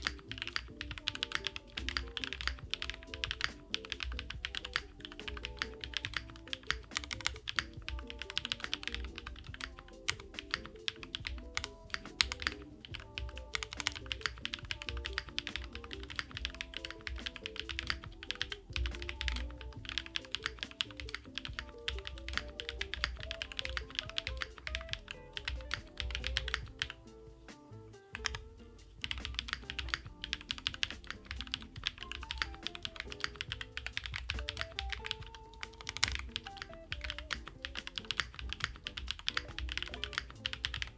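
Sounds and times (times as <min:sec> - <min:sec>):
mechanical keyboard typing: 0:00.0 - 0:27.0, 0:28.1 - 0:40.9
soft background music: 0:00.0 - 0:40.9.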